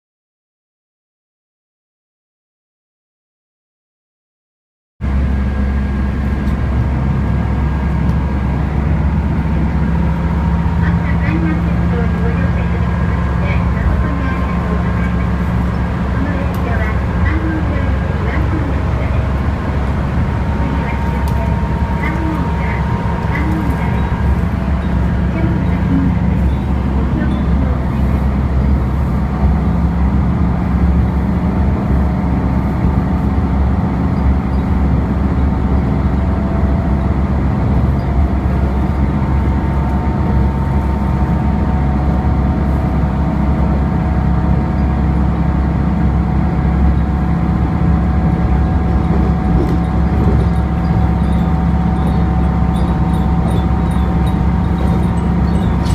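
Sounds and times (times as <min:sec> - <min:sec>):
diesel railcar engine droning: 0:05.0 - 0:55.9.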